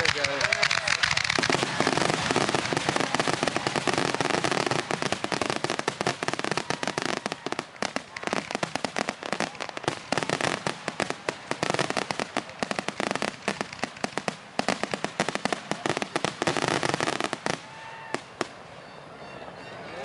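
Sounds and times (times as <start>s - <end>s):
fireworks cracks and bangs: 0.0s - 18.6s.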